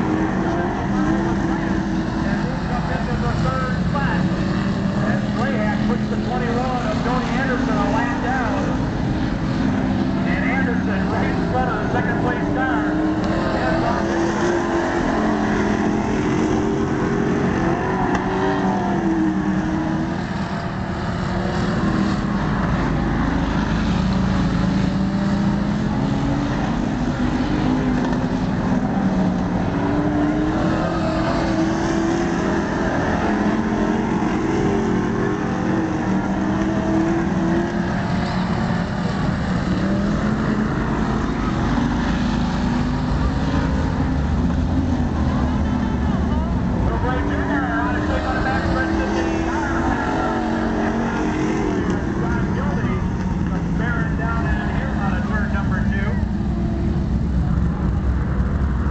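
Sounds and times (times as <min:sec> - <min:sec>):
stock car engines racing: 0:00.0 - 0:58.9.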